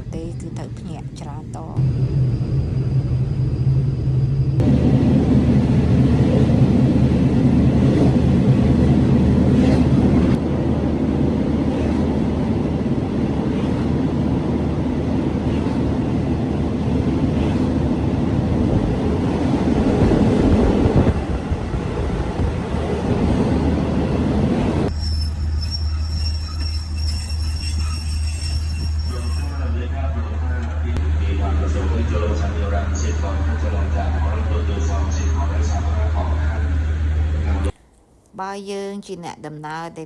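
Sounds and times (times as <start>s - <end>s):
train running on rails: 0.0s - 37.7s.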